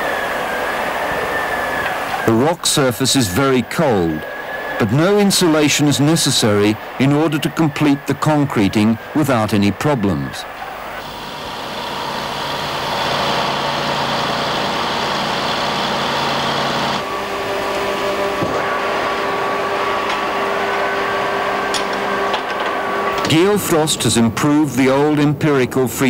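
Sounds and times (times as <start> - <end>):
heavy machinery hum: 0.0 - 24.6
refrigeration machinery hum: 0.0 - 25.2
steady whine: 0.0 - 26.0.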